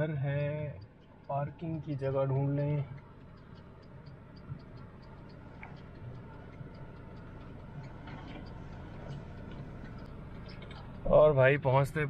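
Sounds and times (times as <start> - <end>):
car engine humming: 0.0 - 12.0
turn signal ticking: 0.0 - 12.0.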